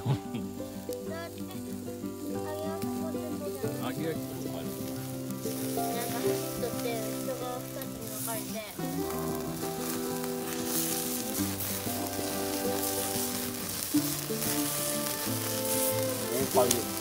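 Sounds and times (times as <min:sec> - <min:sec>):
background music of held chords: 0:00.0 - 0:17.0
meat sizzling on a grill: 0:00.0 - 0:17.0.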